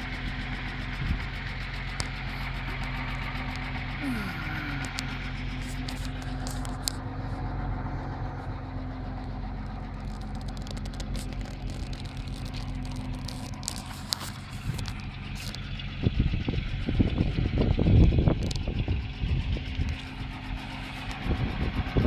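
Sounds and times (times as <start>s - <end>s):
engine idling: 0.0s - 22.0s
heavy rumbling on microphone: 0.8s - 7.0s, 9.8s - 22.0s.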